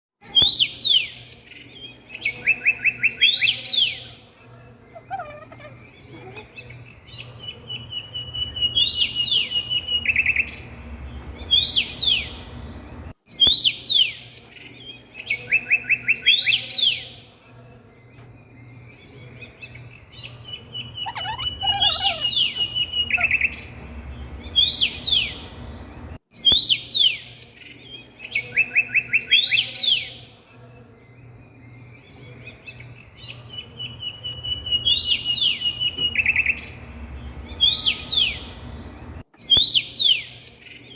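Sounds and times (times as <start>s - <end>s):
songbirds chirping and singing: 0.2s - 40.9s.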